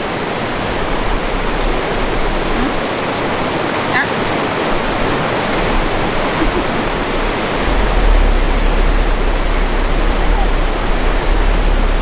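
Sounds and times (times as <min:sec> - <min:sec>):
deep low rumble: 0:00.0 - 0:02.9, 0:04.8 - 0:12.0
mountain stream rushing: 0:00.0 - 0:12.0.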